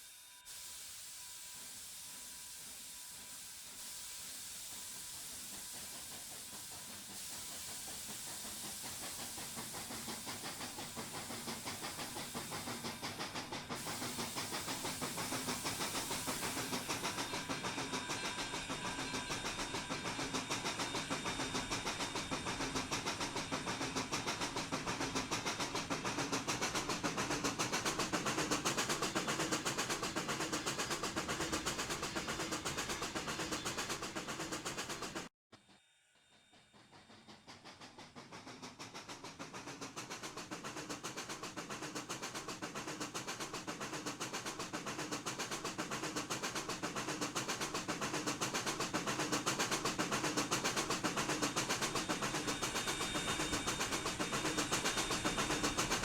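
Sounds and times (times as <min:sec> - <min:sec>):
steam hissing: 0:00.0 - 0:35.8, 0:36.5 - 0:56.0
steam locomotive exhaust beats: 0:00.0 - 0:56.0.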